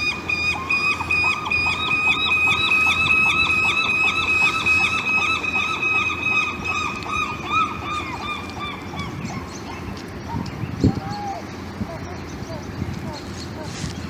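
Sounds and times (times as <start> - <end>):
gull calling: 0.0 - 13.7.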